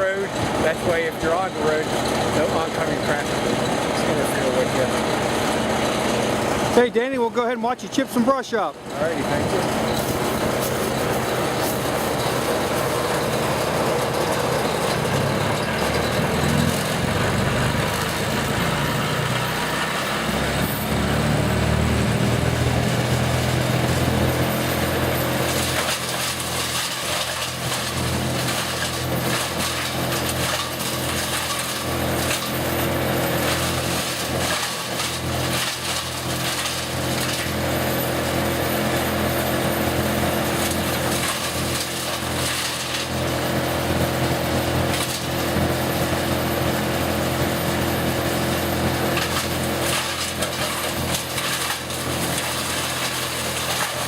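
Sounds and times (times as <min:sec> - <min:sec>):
brush chipper engine running: 0:00.0 - 0:54.0
wood grinding and crunching: 0:00.0 - 0:54.0.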